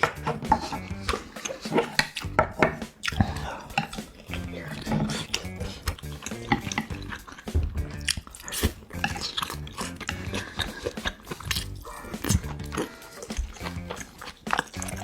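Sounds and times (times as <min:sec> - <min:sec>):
chewing: 0:00.0 - 0:15.0
soft background music: 0:00.0 - 0:15.0
utensils clicking against dishes: 0:00.0 - 0:15.0.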